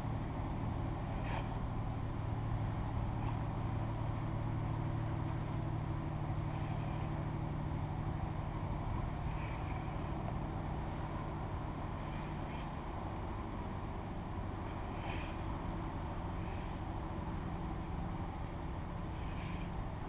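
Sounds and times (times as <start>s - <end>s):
ferry engines droning: 0.0s - 20.0s.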